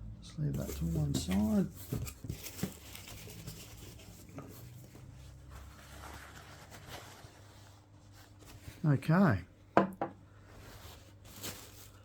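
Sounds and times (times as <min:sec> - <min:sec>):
soft rustling of packaging: 0:00.4 - 0:09.4, 0:10.2 - 0:12.0.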